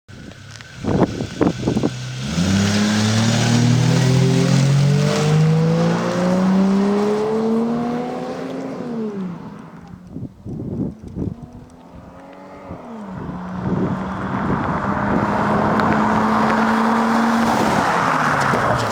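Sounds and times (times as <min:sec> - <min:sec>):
car engine accelerating hard: 0:00.1 - 0:10.2, 0:11.1 - 0:18.9.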